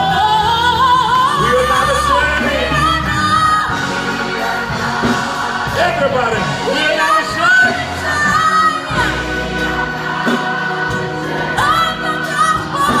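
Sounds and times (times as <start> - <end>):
person singing gospel: 0.0 - 13.0
sustained instrumental accompaniment: 0.0 - 13.0.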